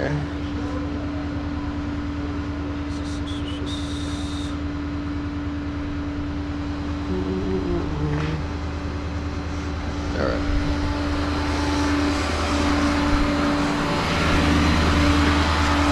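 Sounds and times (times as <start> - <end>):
truck engine idling: 0.0 - 15.9.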